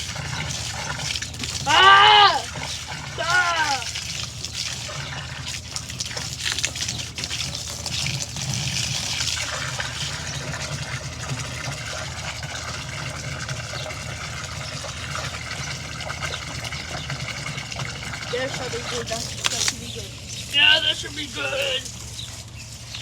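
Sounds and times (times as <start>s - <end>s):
running water splashing: 0.0s - 23.0s.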